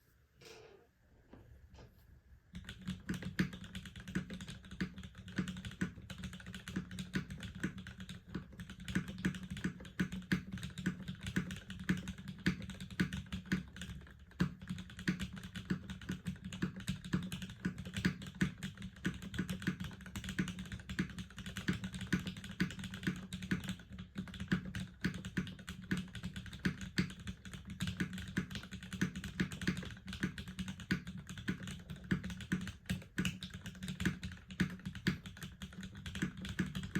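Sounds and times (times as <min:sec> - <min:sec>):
fast mechanical keyboard typing: 0:02.6 - 0:36.9.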